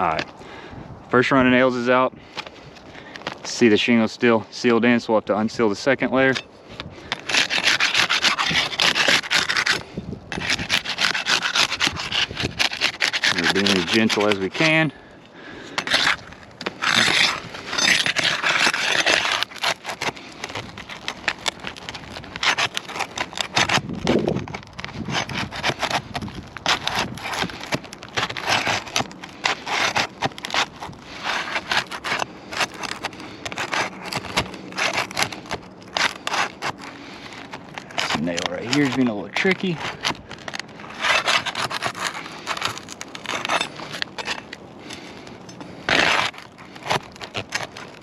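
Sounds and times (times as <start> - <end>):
roof shingles scraping: 5.4 - 48.0.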